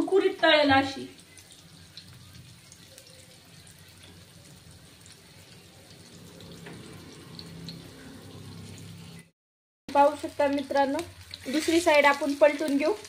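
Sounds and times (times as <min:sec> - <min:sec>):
fish frying in oil: 0:00.0 - 0:09.3, 0:09.9 - 0:13.0.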